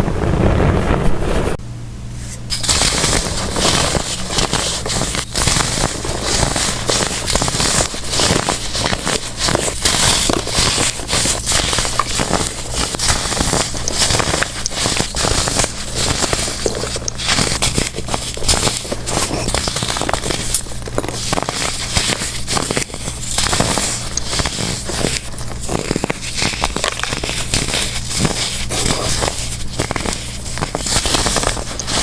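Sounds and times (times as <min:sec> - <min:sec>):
baking soda blocks crunching: 0:02.5 - 0:32.0.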